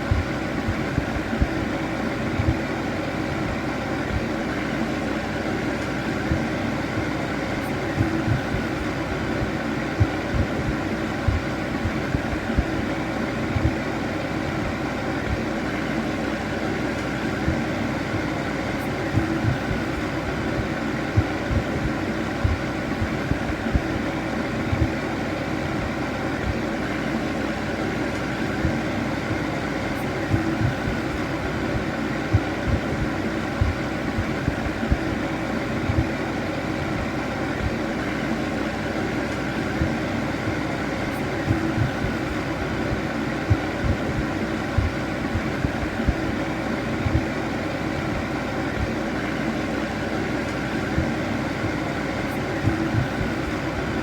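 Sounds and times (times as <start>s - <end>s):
electric fan heater whirring: 0.0s - 54.0s.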